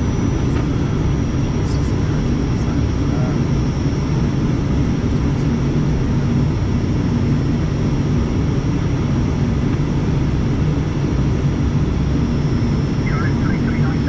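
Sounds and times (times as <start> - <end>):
constant low hum: 0.0 - 14.0
turboprop engines droning: 0.0 - 14.0.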